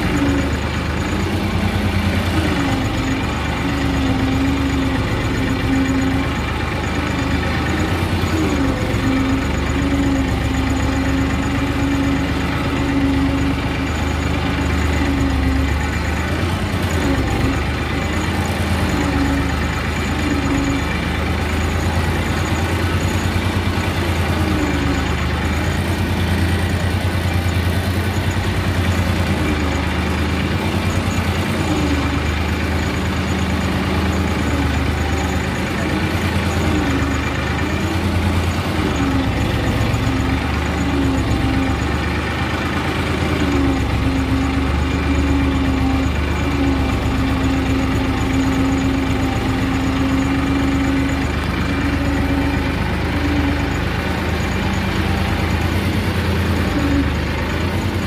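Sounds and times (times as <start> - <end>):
tractor diesel engine rumbling: 0.0 - 58.0.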